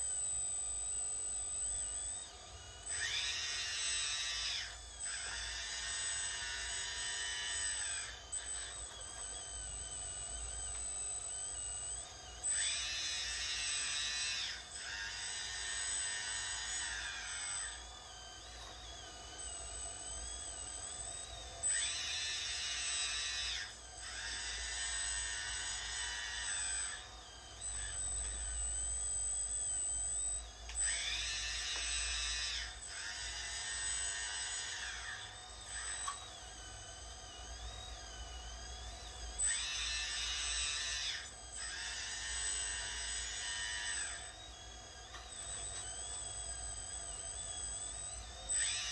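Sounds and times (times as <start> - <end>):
hydraulic pumps whining: 0.0 - 48.9.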